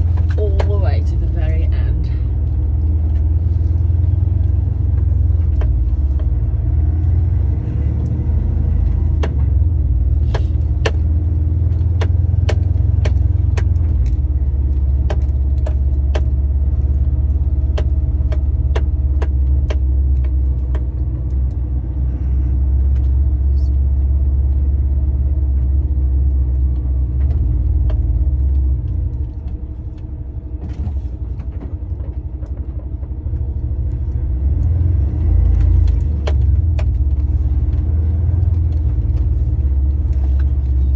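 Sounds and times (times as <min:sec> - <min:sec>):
diesel lorry engine running: 0:00.0 - 0:40.9.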